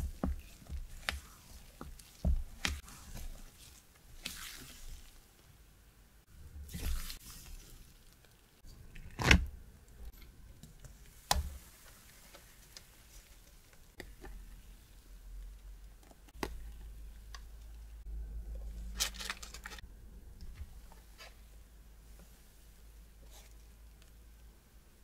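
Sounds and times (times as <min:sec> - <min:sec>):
scraper rustling batter: 0:00.0 - 0:05.8, 0:06.6 - 0:19.9, 0:20.5 - 0:24.3.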